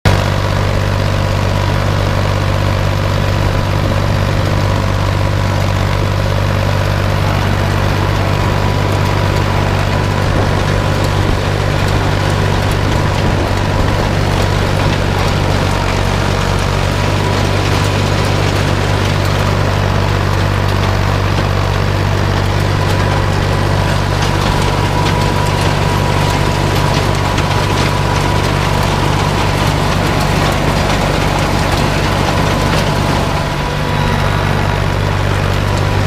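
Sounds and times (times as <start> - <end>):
tractor engine droning: 0.0 - 36.0.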